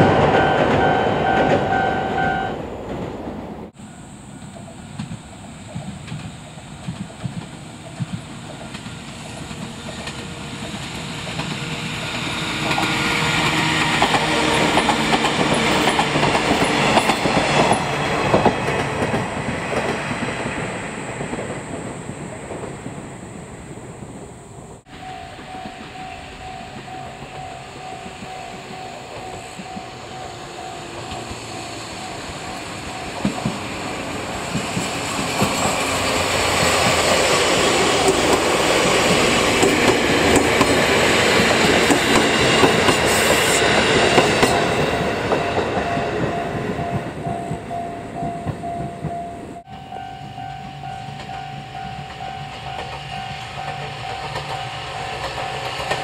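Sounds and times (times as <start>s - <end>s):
electric train passing by: 0.0s - 56.0s
electric train wheel and rail noise: 0.0s - 56.0s.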